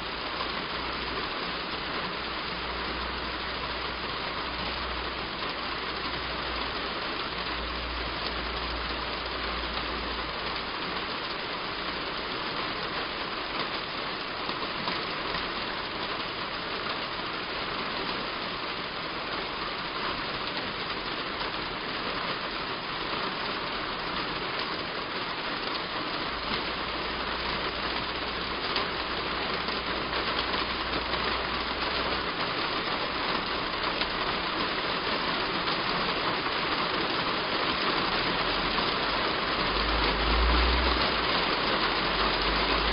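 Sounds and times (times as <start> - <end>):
heavy rain on a roof: 0.0 - 42.9.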